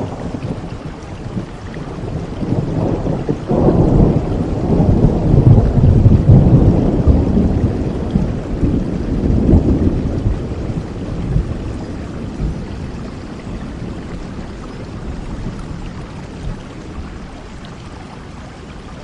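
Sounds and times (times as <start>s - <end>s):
thunder rumbling: 0.0s - 17.6s
steady rain: 0.0s - 19.0s.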